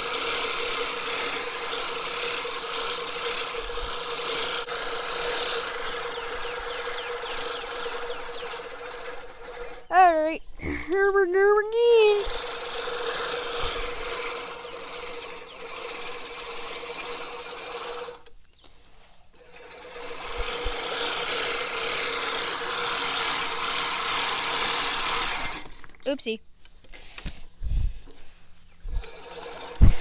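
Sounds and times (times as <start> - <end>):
reel mower blades whirring: 0.0 - 30.0.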